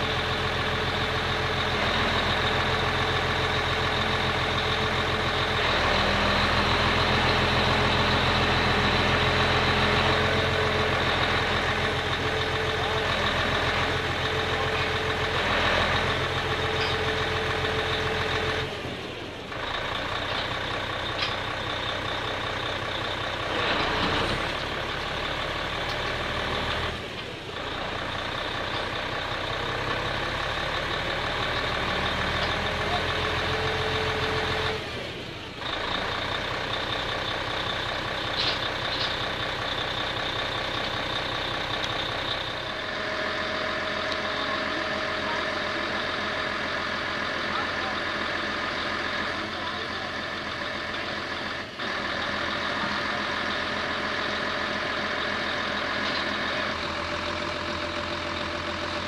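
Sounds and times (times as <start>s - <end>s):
heavy machinery running: 0.0s - 59.0s.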